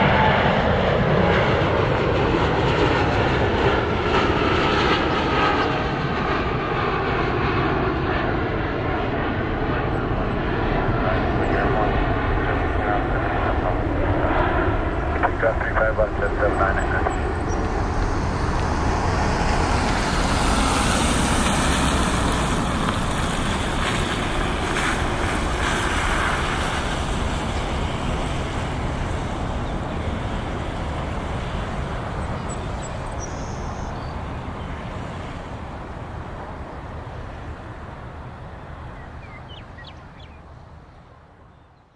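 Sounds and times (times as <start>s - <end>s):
jet engines roaring: 0.0s - 41.4s.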